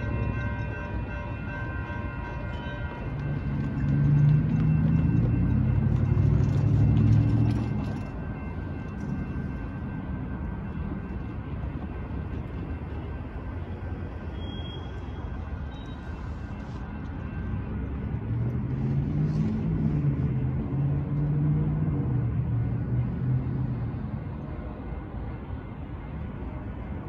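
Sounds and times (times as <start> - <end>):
passing road vehicles rumble: 0.0 - 27.0.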